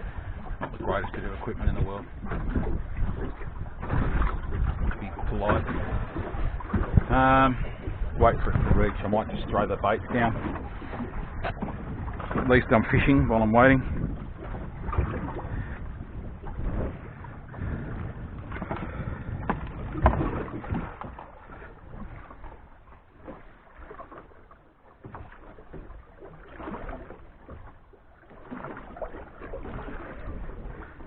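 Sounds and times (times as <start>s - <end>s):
wind and water noise: 0.0s - 31.0s.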